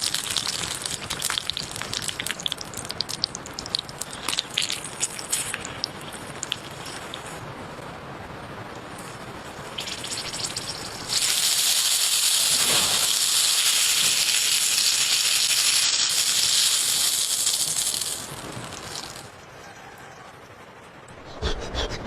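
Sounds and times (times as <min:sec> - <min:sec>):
sizzling on hot stone: 0:00.0 - 0:07.4, 0:08.9 - 0:19.4.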